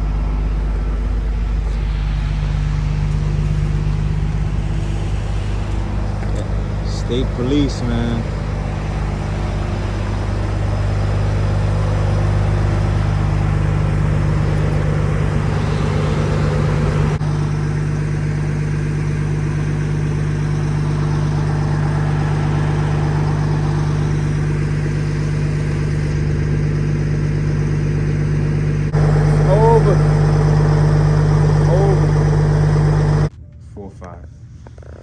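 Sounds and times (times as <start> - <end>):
vehicle engine droning: 0.0 - 33.3.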